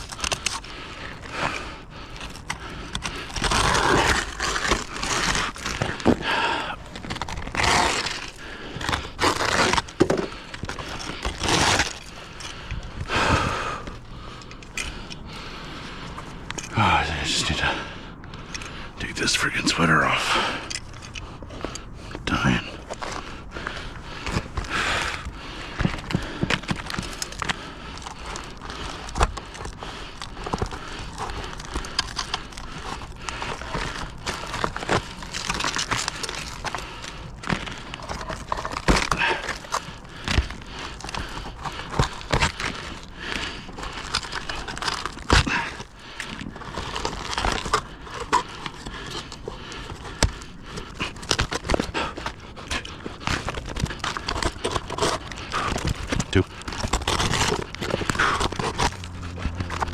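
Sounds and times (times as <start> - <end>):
clothing rustling and crinkling: 0.0 - 17.6, 20.4 - 59.9.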